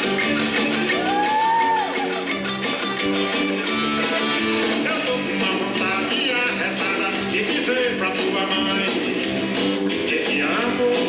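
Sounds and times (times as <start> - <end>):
strummed guitar song: 0.0 - 11.0.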